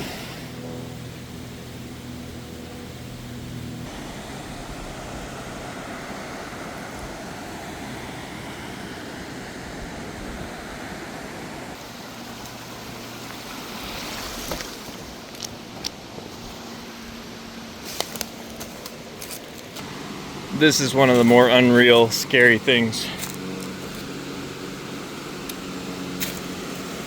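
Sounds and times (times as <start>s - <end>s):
rushing river water: 3.8s - 27.0s.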